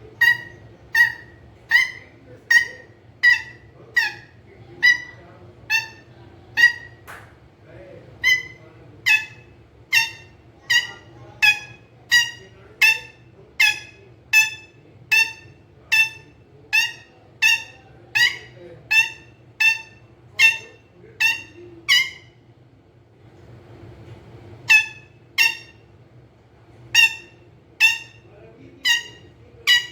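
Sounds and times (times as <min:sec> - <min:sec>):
parakeet harsh high calls: 0:00.2 - 0:07.0, 0:08.2 - 0:22.4, 0:24.7 - 0:25.8, 0:26.9 - 0:29.9.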